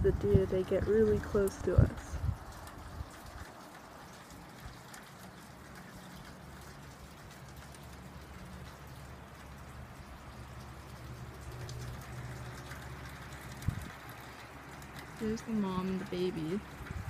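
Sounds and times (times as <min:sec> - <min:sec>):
light rain patter: 0:00.0 - 0:17.0
low steady hum: 0:00.0 - 0:17.0
water drips ticking: 0:00.1 - 0:17.0.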